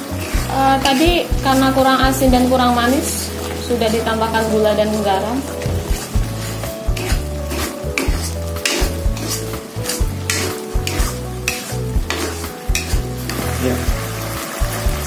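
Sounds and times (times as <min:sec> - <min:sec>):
metal spatula scraping a wok: 0:00.0 - 0:14.9.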